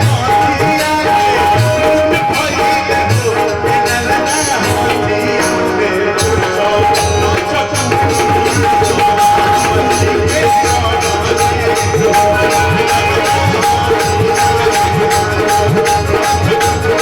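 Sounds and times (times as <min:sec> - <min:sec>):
hand drum beats: 0:00.0 - 0:17.0
jingling percussion: 0:00.0 - 0:17.0.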